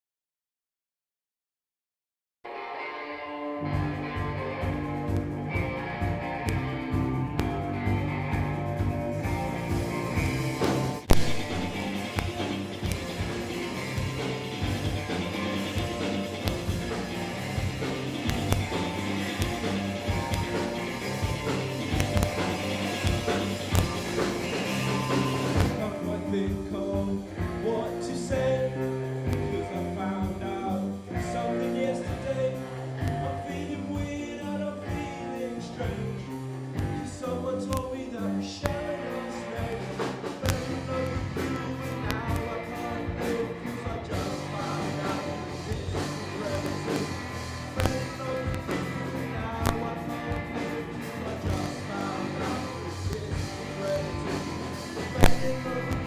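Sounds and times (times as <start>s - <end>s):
rock band playing: 2.5s - 56.0s
person singing: 10.6s - 56.0s.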